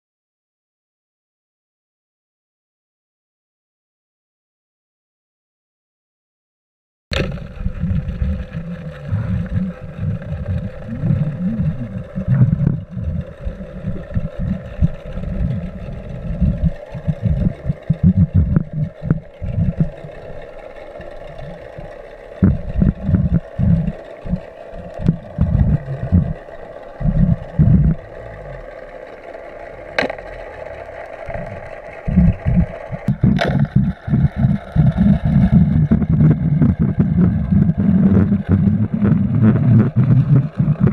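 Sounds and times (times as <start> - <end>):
boat motor hum underwater: 7.1 - 40.9.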